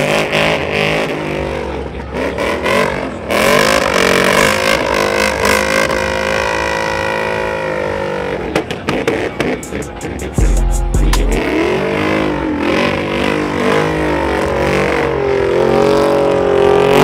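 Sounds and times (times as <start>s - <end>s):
pickup engine revving: 0.0s - 17.0s.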